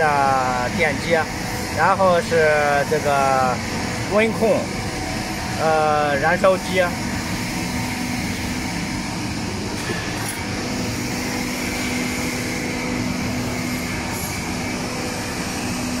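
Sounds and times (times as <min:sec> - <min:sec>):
steady low hum: 0:00.0 - 0:16.0
steady rushing machine noise: 0:00.0 - 0:16.0.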